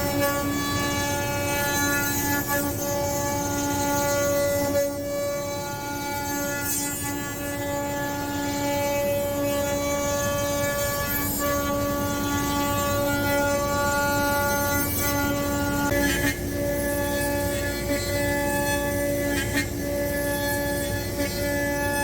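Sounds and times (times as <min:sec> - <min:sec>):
router spindle high whine: 0:00.0 - 0:22.0.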